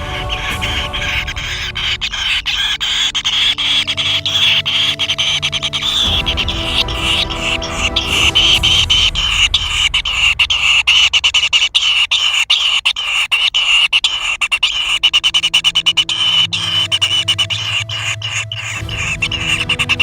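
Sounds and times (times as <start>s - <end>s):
nestlings chattering: 0.0s - 20.0s.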